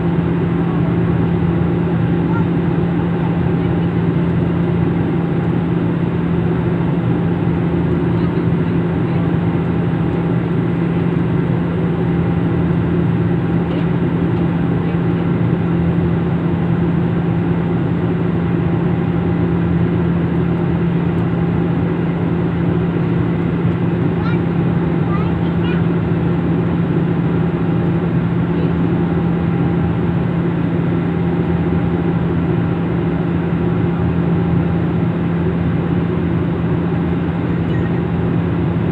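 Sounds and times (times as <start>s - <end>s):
aircraft drone in flight: 0.0s - 38.9s.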